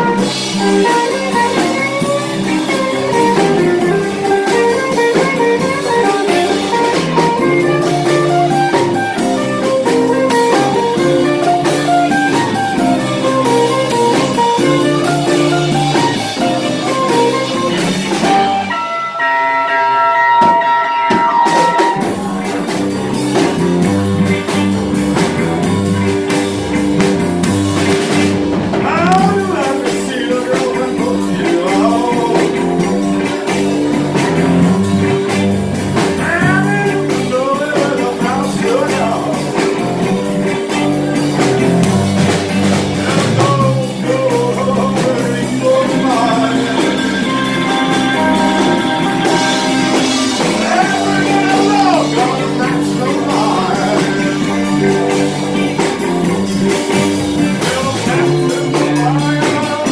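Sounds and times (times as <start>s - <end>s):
band playing rhythm and blues shuffle: 0.0s - 59.9s.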